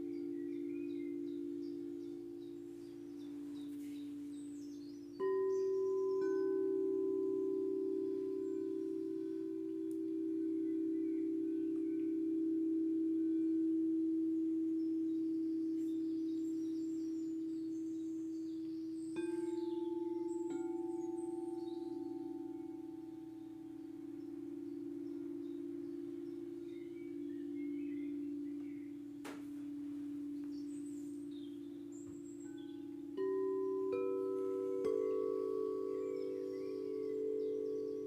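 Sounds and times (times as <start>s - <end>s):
singing bowls ringing: 0.0s - 38.0s.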